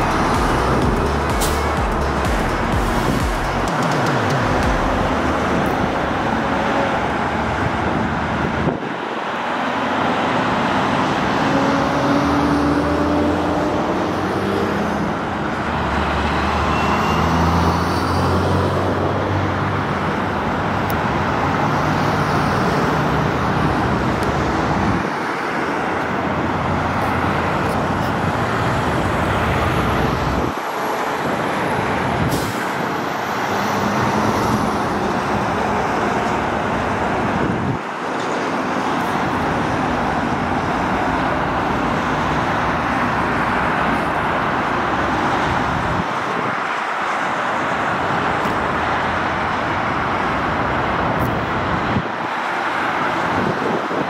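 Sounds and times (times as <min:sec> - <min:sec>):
heavy vehicle engine hum: 0:00.0 - 0:54.0
highway traffic roar: 0:00.0 - 0:54.0.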